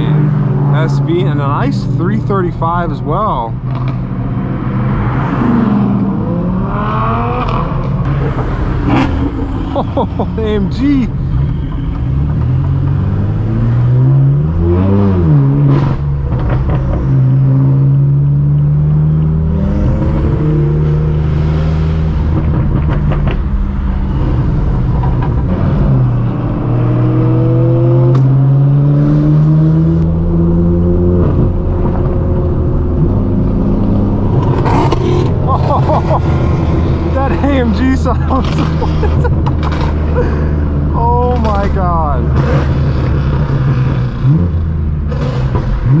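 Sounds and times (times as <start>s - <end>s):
car engine pulling: 0.0s - 46.0s
car engine revving: 0.0s - 46.0s.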